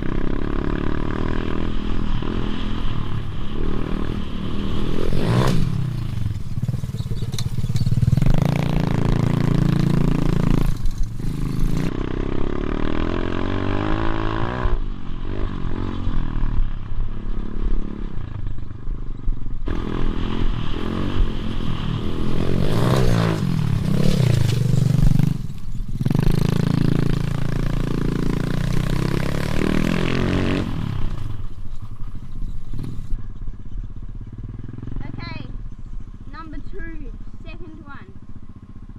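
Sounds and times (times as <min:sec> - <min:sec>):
motorbike engines revving: 0:00.0 - 0:38.9.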